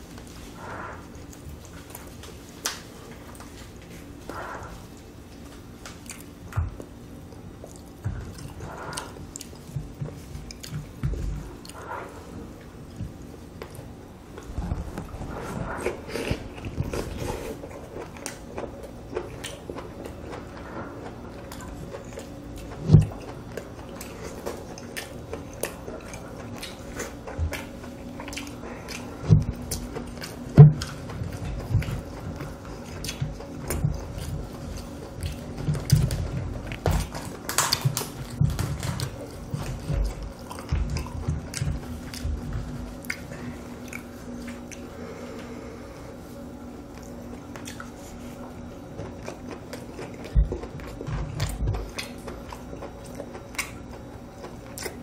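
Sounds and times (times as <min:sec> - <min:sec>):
wet chewing: 0:00.0 - 0:45.1, 0:46.9 - 0:55.0.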